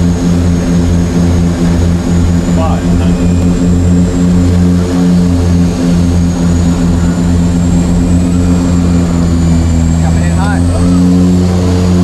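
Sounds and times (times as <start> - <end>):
propeller plane engines humming: 0.0 - 12.0.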